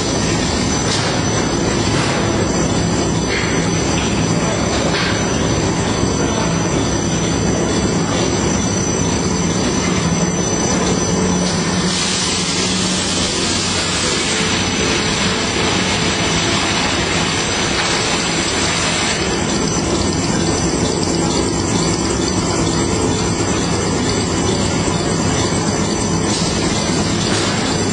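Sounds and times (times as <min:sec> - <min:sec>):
machinery clatter and rumble: 0:00.0 - 0:27.9
steady machine hum: 0:00.0 - 0:27.9
thin high whine: 0:00.0 - 0:27.9.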